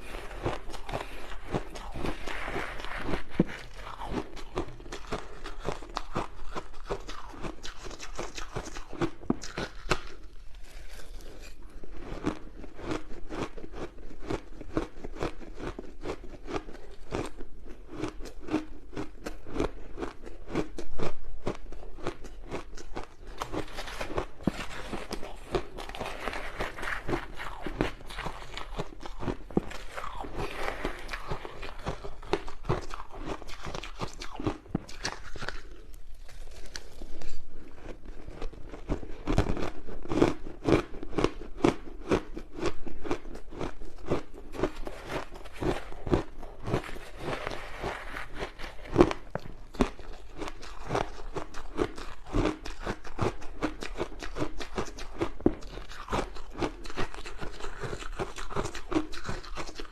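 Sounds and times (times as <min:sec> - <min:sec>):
ice crunching in the mouth: 0:00.0 - 0:21.8, 0:22.5 - 0:59.9.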